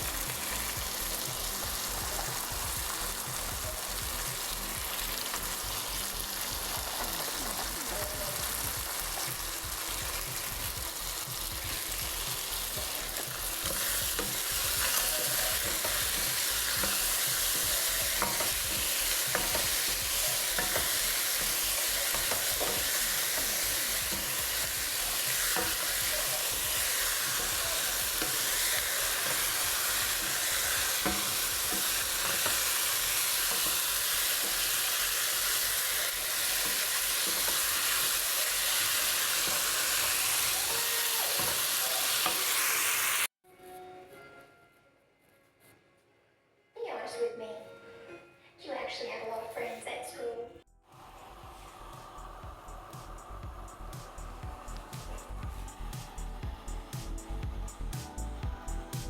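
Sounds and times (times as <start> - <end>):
food sizzling in a pan: 0.0 - 43.3, 50.8 - 59.0.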